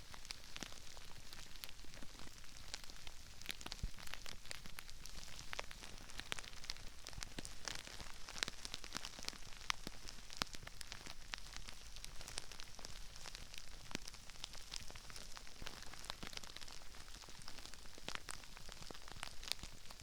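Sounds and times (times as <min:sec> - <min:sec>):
crispy rice crackling and popping: 0:00.0 - 0:20.0
faint steady hiss: 0:00.0 - 0:20.0.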